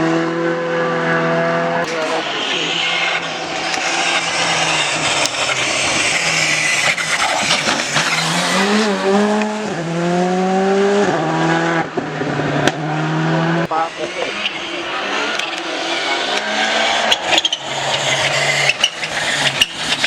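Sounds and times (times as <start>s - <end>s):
rally car engine roaring: 0.0s - 20.0s.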